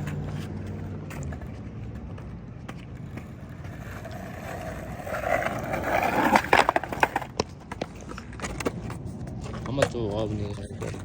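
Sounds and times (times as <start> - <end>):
skateboard wheels rolling on wet pavement: 0.0 - 9.6.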